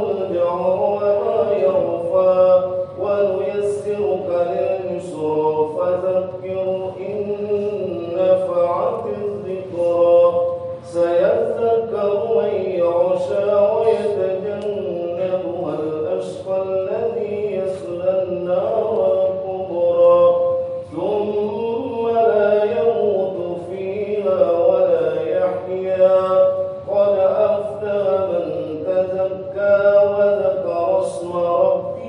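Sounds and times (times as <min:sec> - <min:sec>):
man chanting recitation: 0:00.0 - 0:32.0.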